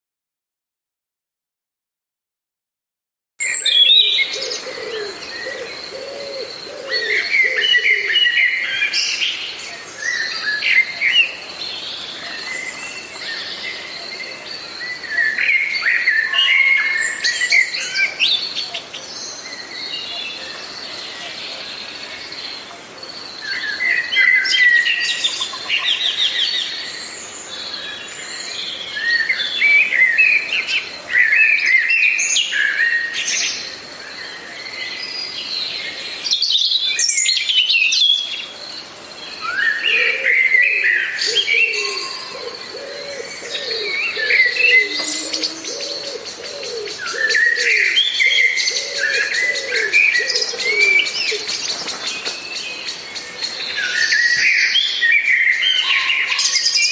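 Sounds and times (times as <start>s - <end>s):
songbirds singing: 3.4s - 56.9s.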